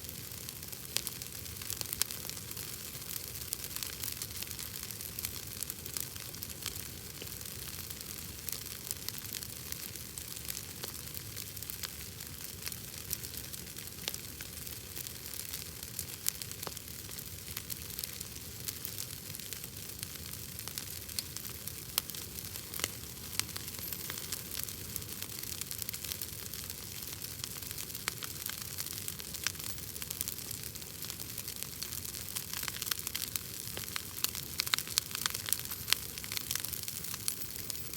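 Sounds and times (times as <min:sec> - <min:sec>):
bonfire crackling and popping: 0:00.0 - 0:37.9.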